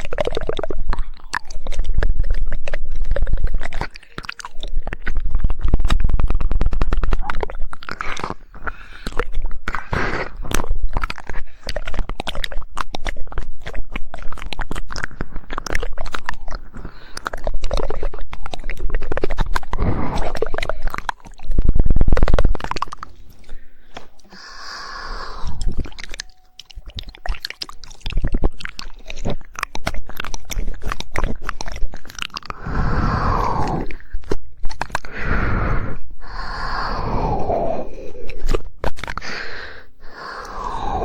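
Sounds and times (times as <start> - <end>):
tongue clicks: 0.0 - 41.0
wet smacking mouth noises: 0.0 - 41.0.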